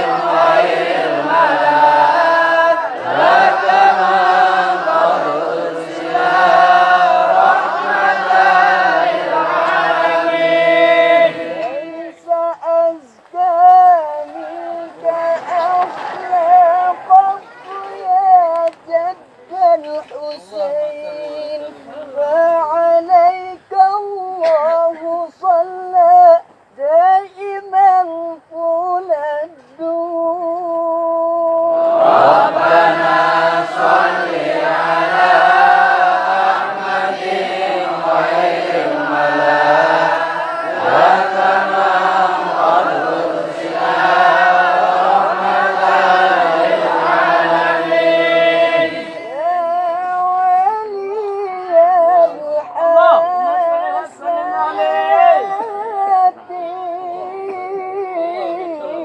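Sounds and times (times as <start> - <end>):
group of voices singing: 0.0 - 18.7, 30.4 - 59.0
boy singing: 9.5 - 59.0.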